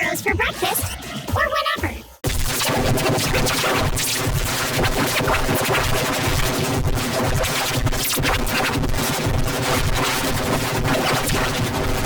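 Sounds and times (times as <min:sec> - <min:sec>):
harsh distorted music: 0:00.0 - 0:12.0.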